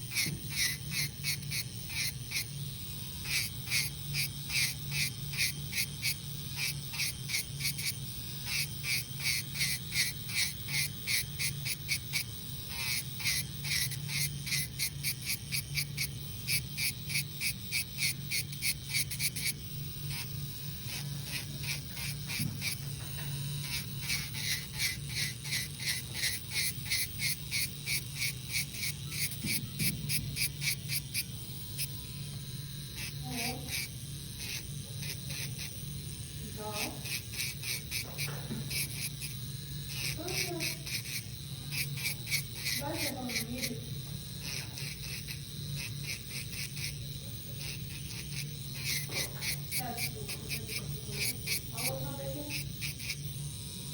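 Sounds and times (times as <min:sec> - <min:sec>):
drill bit rasping against nail: 0:00.0 - 0:53.9
electric nail drill humming: 0:00.0 - 0:53.9.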